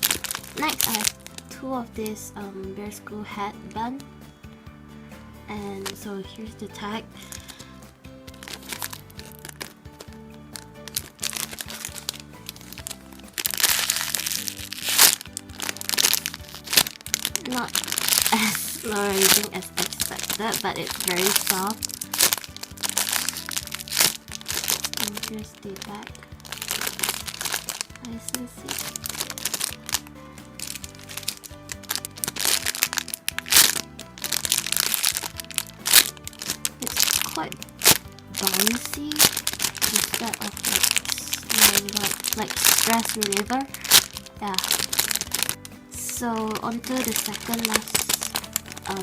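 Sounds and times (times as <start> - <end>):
plastic packaging crinkling: 0.0 - 2.2, 5.6 - 6.2, 7.2 - 7.7, 8.3 - 49.0
background music with held notes: 0.0 - 49.0.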